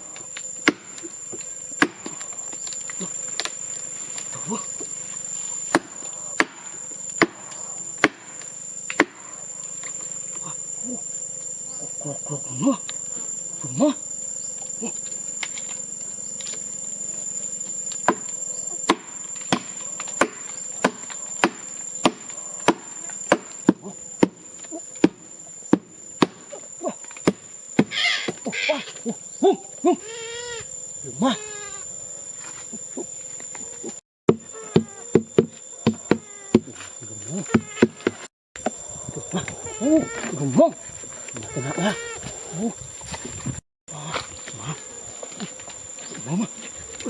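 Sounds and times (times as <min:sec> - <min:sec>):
crickets droning: 0:00.0 - 0:47.0.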